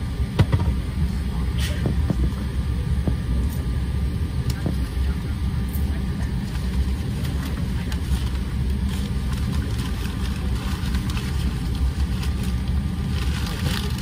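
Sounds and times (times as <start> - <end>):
jet cabin low rumble: 0.0 - 14.0.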